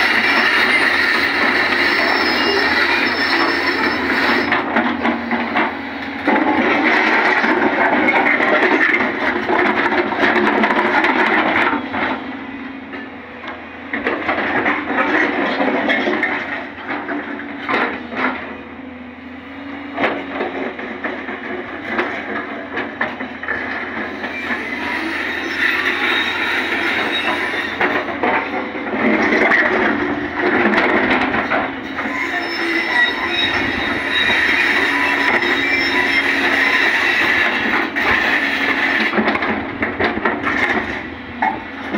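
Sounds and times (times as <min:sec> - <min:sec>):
steel tracks clanking and squealing: 0:00.0 - 0:12.3, 0:13.0 - 0:18.8, 0:19.8 - 0:41.9
excavator engine running: 0:00.0 - 0:41.9.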